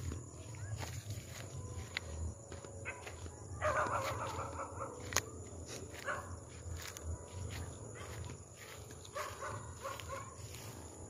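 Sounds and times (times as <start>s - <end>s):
footsteps through grass: 0.0s - 11.0s.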